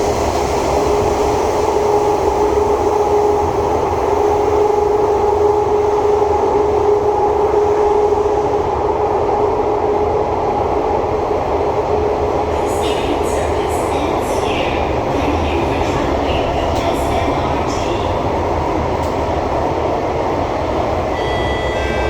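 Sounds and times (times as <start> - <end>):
wheels rumbling on track: 0.0 - 22.0.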